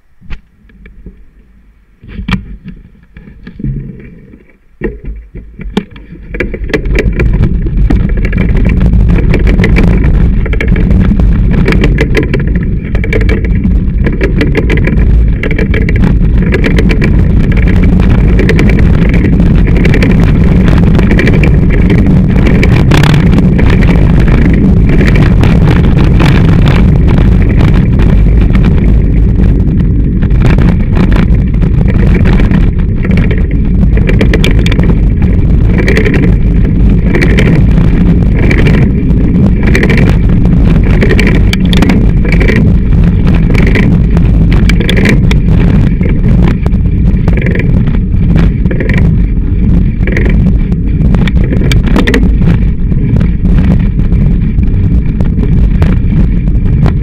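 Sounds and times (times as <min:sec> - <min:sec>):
rumble of wind and vibration: 0:00.0 - 0:57.0.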